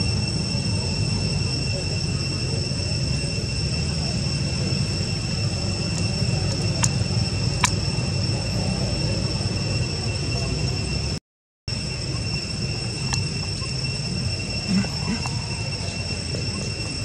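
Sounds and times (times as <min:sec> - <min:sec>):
steady high-pitched whine: 0:00.0 - 0:17.0.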